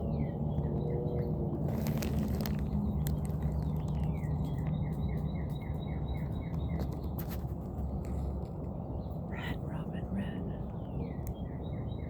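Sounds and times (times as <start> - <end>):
low background rumble: 0.0 - 12.0
songbird singing: 0.0 - 12.0.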